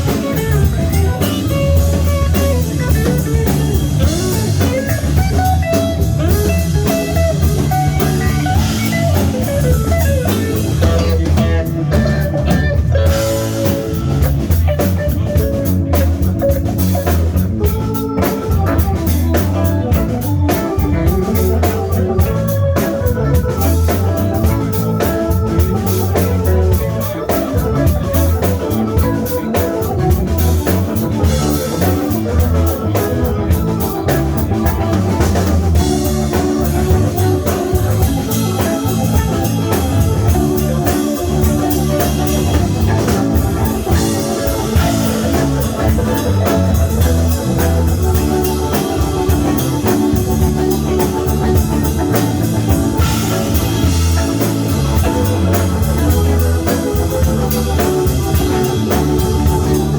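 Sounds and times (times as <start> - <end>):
live band playing instrumental: 0.0 - 59.9.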